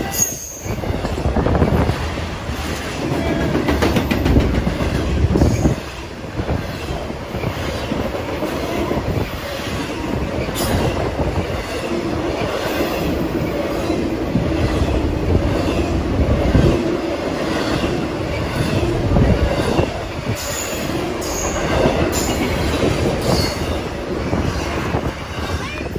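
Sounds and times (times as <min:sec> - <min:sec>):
freight train rolling past: 0:00.0 - 0:25.9.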